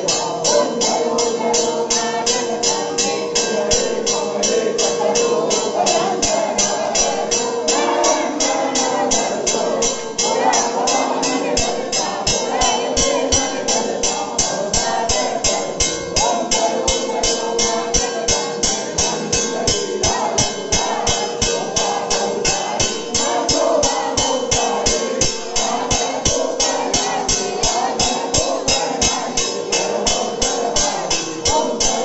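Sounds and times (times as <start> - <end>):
people singing: 0.0 - 32.0
steady held tone: 0.0 - 32.0
fast percussion beats: 3.6 - 32.0.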